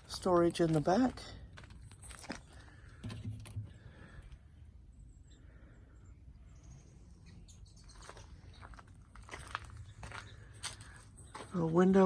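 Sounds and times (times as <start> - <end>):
faint birds chirping: 1.0 - 12.0.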